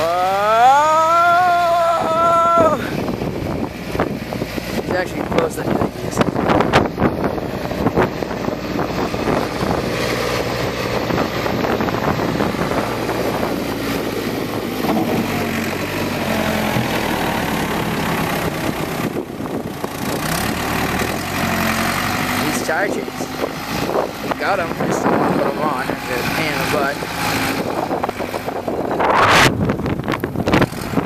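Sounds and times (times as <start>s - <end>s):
backhoe diesel engine running: 0.0s - 31.0s.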